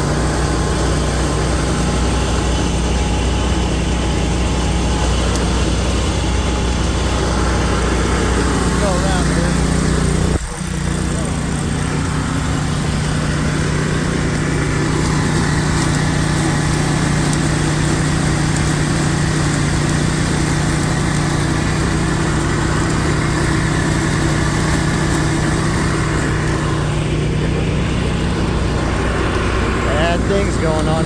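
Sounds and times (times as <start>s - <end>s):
milling machinery drone: 0.0s - 31.0s.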